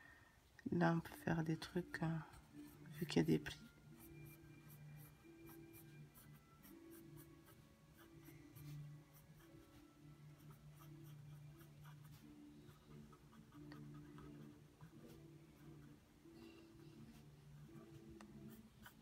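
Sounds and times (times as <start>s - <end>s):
pencil scratching on paper: 2.5s - 16.0s, 17.0s - 19.0s.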